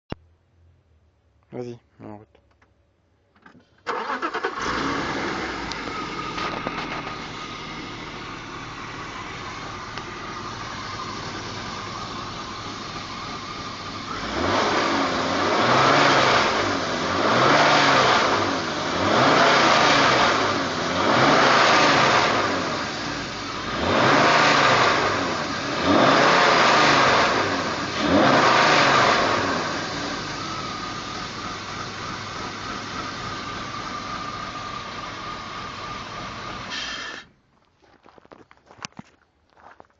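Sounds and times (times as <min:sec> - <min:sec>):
car engine idling and revving: 0:03.3 - 0:37.3.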